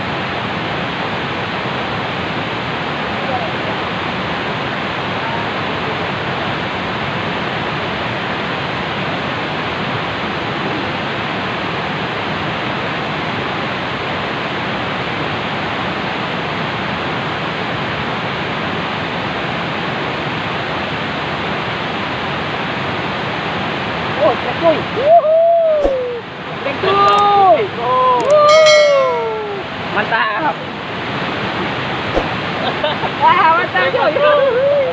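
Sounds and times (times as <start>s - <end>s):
fast-flowing river water: 0.0s - 34.9s.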